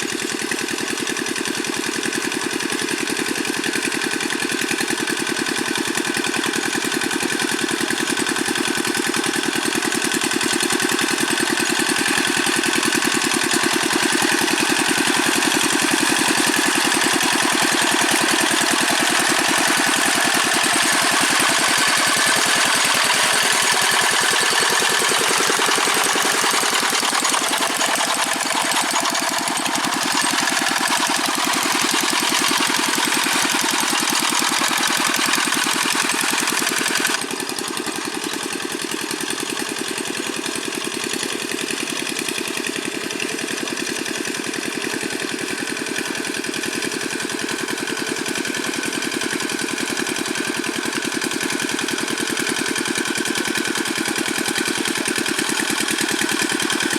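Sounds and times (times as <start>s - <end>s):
diesel tractor engine running: 0.0s - 56.9s.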